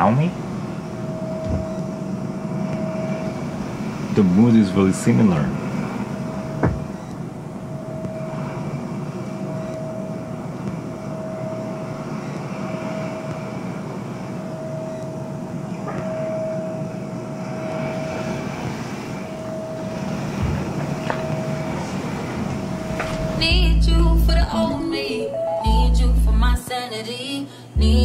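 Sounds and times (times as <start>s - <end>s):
ocean surf and wind: 0.0s - 25.7s
thin high tone: 0.0s - 26.7s.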